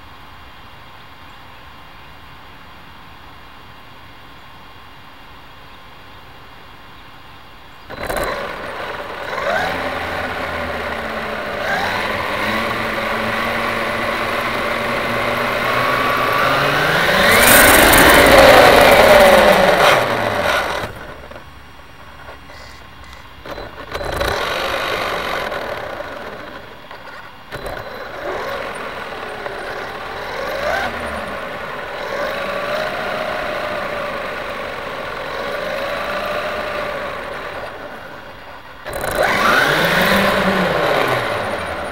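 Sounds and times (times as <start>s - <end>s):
rc car motor whining: 7.8s - 41.9s.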